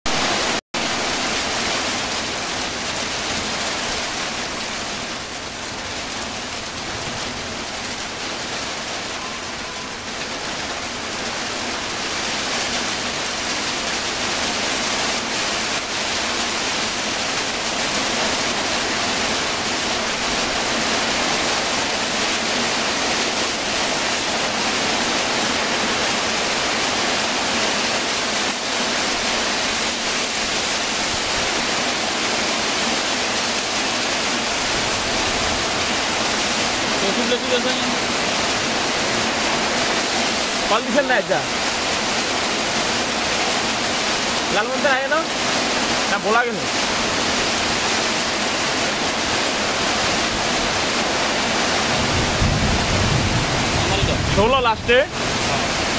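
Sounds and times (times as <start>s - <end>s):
steady rain falling: 0.1s - 55.9s.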